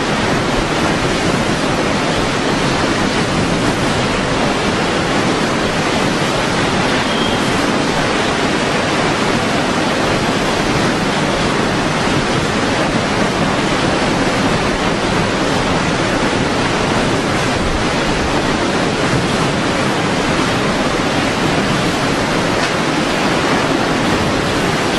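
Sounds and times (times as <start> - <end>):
hurricane wind: 0.0 - 24.9
wind-driven rain: 0.0 - 24.9.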